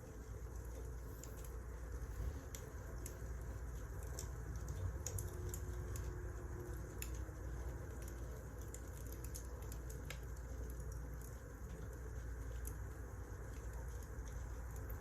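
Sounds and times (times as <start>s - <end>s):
low rumble of flames: 0.0s - 15.0s
wood fire crackling and popping: 0.4s - 15.0s.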